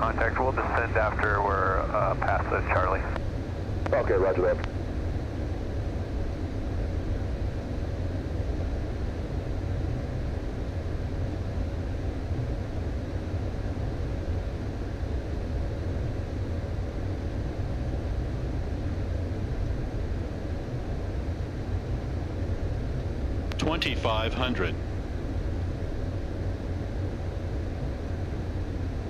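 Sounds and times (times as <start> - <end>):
faint steady hum: 0.0 - 29.0
jet engine drone and airflow: 0.0 - 29.0.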